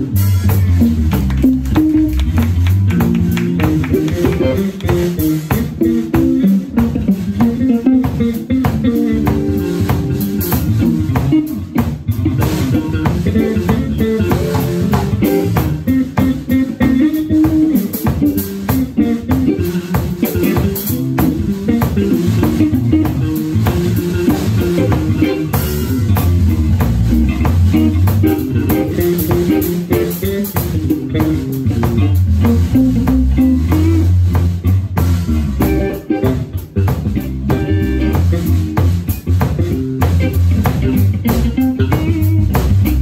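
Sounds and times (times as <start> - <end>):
drums: 0.0 - 43.0
electric bass: 0.0 - 43.0
electric guitar: 0.0 - 43.0.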